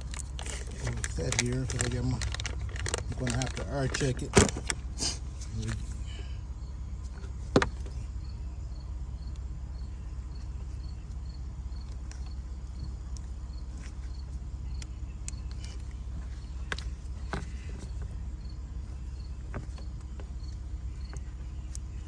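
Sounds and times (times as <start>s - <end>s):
cricket chirping: 0.0s - 22.0s
low background rumble: 0.0s - 22.0s.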